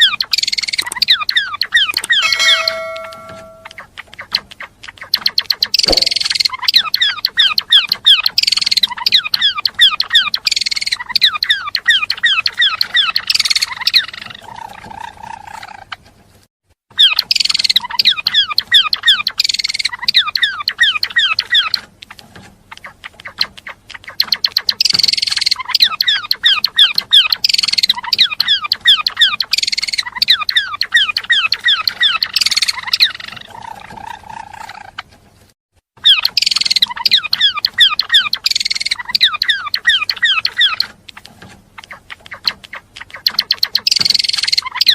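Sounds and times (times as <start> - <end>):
songbird chattering song: 0.0 - 15.9, 17.0 - 35.0, 36.0 - 44.9.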